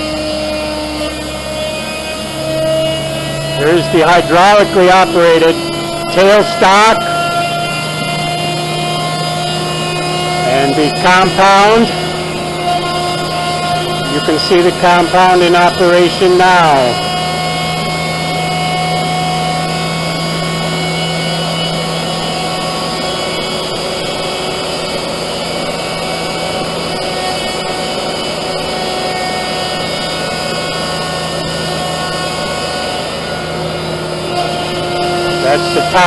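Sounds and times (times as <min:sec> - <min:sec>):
lathe running with whine: 0:00.0 - 0:36.0.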